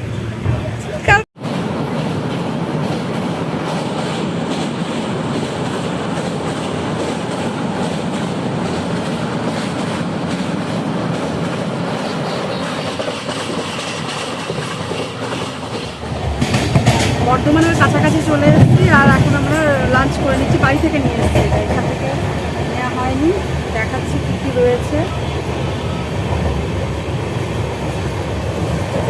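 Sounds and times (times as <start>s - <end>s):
train carriage rumbling on rails: 0.0s - 29.0s.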